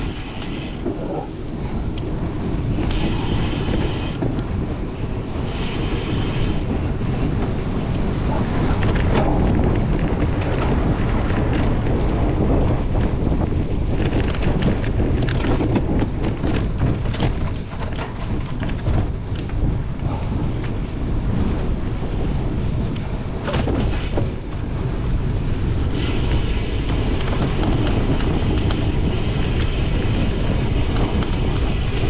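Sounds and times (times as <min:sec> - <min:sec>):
bike clicks and rattles: 0:00.0 - 0:32.0
bike tyre noise: 0:00.0 - 0:32.0
wind rushing over microphone: 0:00.0 - 0:32.0.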